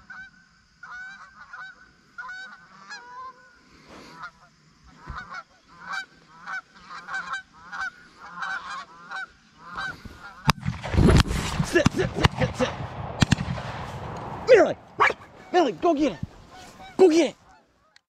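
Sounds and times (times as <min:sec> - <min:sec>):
geese honking: 0:00.0 - 0:10.6, 0:14.1 - 0:18.0.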